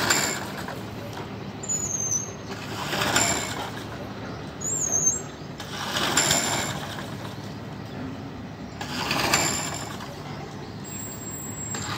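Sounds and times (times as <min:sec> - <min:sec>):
lawnmower engine running: 0:00.0 - 0:01.6, 0:02.3 - 0:07.8, 0:08.7 - 0:11.9.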